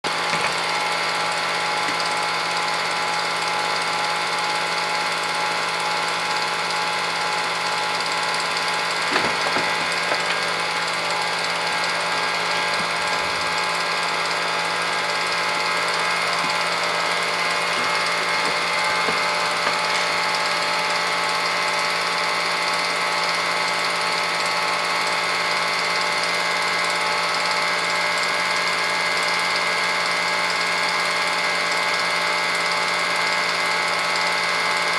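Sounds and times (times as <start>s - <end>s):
film projector running: 0.0s - 34.9s.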